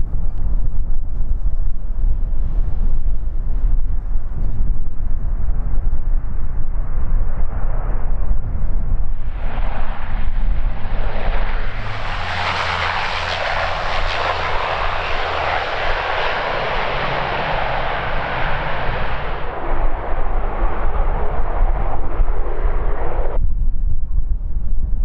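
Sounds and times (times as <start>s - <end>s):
turboprop engines and propellers: 0.0s - 25.0s.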